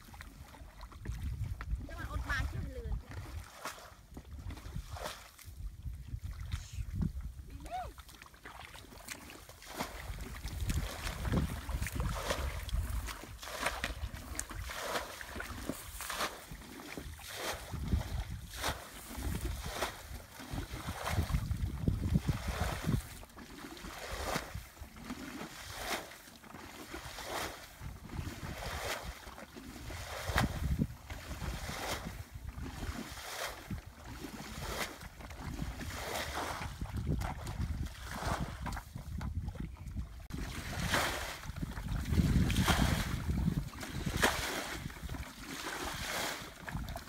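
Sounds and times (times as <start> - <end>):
wind rumbling on microphone: 0.0 - 8.1, 9.6 - 25.9, 26.9 - 47.0
splashes and swishes in water: 0.0 - 47.0.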